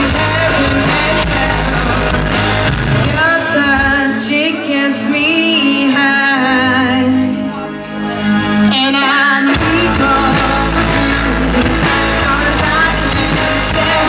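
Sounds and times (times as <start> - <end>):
live rock band playing: 0.0 - 14.0
person singing: 0.0 - 14.0.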